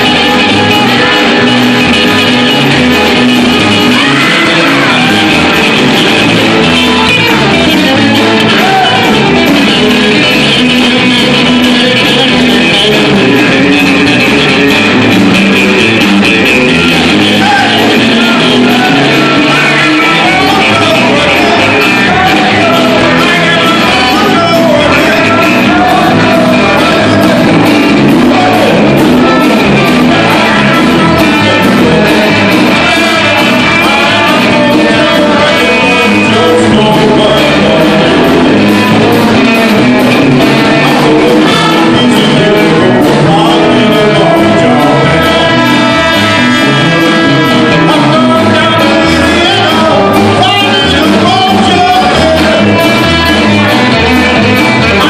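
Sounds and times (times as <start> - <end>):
drum kit: 0.0 - 55.0
electric bass: 0.0 - 55.0
electric guitar: 0.0 - 55.0
person singing: 0.0 - 55.0.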